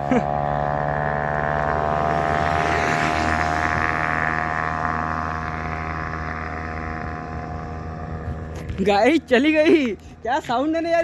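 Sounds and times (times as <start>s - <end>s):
motorcycle at full throttle: 0.0s - 11.0s.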